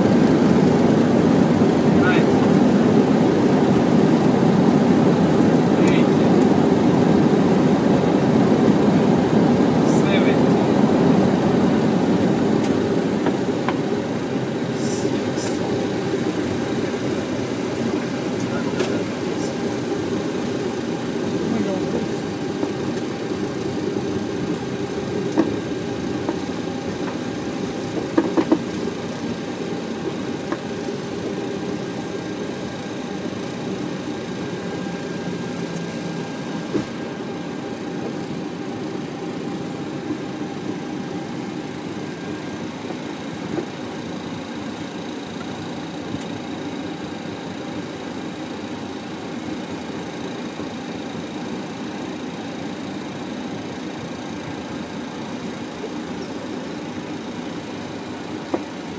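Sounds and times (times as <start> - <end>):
jet engines idling: 0.0 - 58.9.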